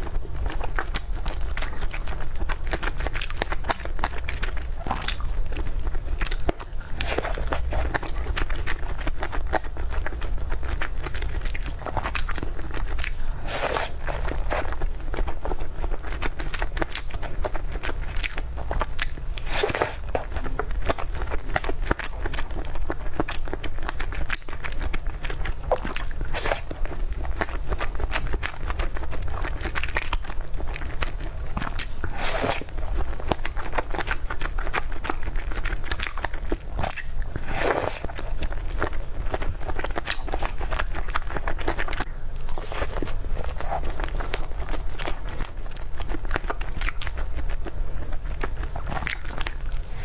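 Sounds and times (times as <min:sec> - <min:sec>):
chewing crunchy food: 0:00.0 - 0:50.0
steady low hum: 0:00.0 - 0:50.0.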